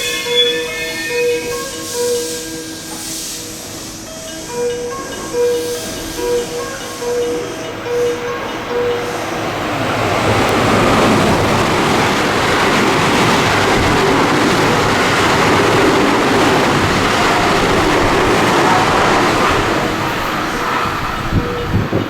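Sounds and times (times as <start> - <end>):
train wheels rushing on rails: 0.0 - 22.0.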